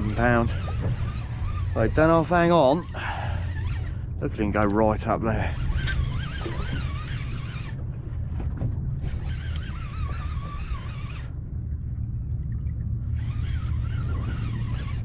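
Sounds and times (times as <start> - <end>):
fishing reel drag whining: 0.0 - 11.4, 13.0 - 15.0
wind buffeting microphone: 0.0 - 15.0.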